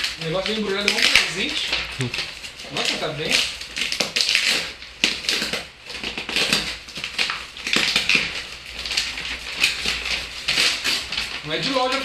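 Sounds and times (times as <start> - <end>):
parcel wrapping tearing and crumpling: 0.0 - 12.0.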